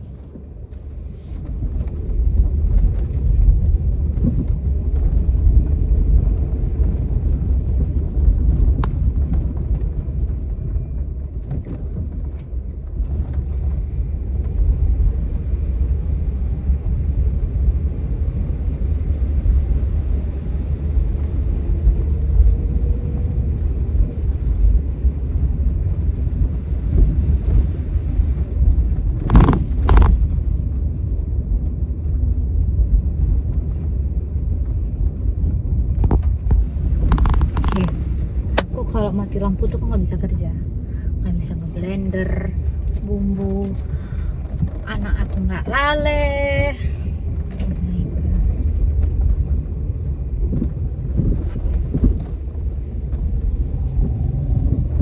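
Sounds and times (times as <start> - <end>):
vehicle travel rumble: 0.0 - 55.0
wind buffeting: 0.0 - 55.0.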